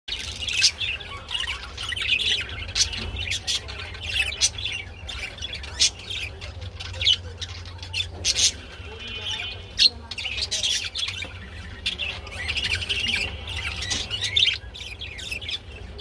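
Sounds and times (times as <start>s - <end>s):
budgerigars chattering and warbling: 0.1s - 16.0s.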